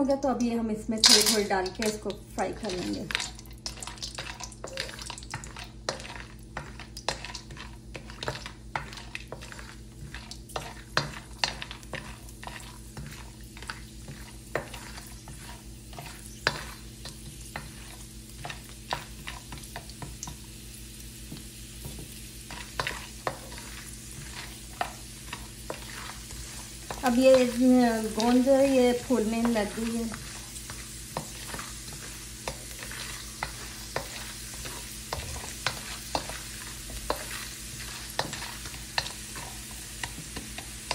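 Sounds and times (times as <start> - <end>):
gum sizzling and popping in oil: 0.0 - 40.9
wooden spatula scraping a pan: 2.5 - 20.1, 21.3 - 40.9.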